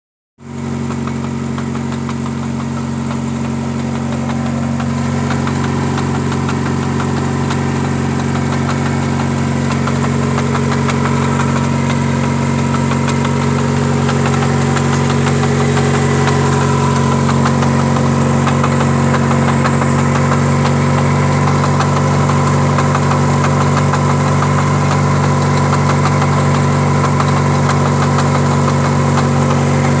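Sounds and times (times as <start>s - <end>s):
engine idling with knock: 0.4s - 30.0s.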